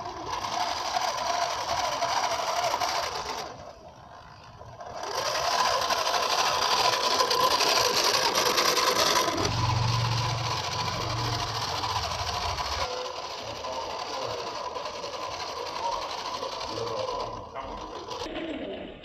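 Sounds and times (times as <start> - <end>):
small electric motor whining: 0.0 - 18.4.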